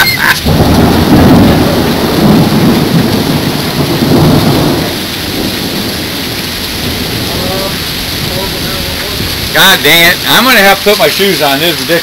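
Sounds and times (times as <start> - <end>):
heavy rain: 0.0 - 12.0
strong gusting wind: 0.2 - 12.0.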